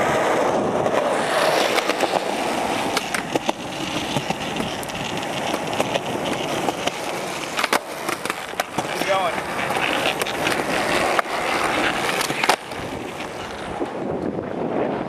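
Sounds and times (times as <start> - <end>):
skateboard clacking on ground: 0.0 - 14.4
skateboard wheels rolling on concrete: 0.0 - 15.0.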